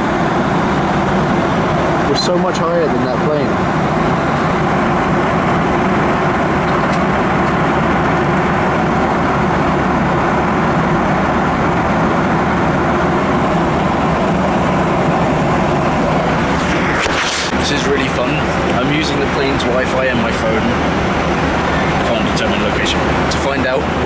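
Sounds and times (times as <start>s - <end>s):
jet airliner cabin roar: 0.0s - 24.0s.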